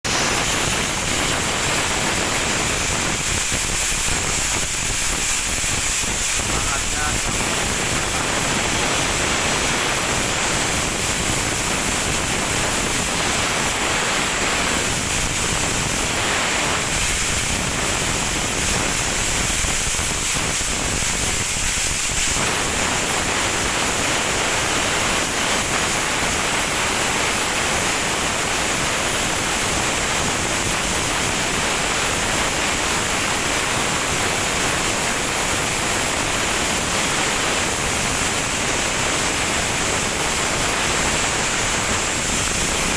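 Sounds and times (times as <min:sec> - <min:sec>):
sandblasting nozzle hissing: 0:00.1 - 0:42.9.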